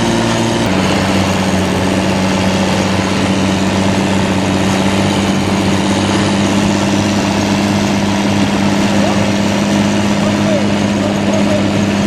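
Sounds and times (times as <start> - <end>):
heavy diesel engine droning: 0.0 - 12.0.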